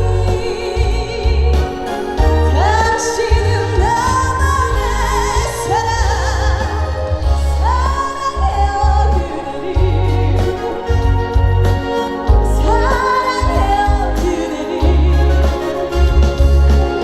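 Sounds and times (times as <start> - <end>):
backing track with bass beat: 0.0 - 17.0
woman singing: 0.0 - 17.0.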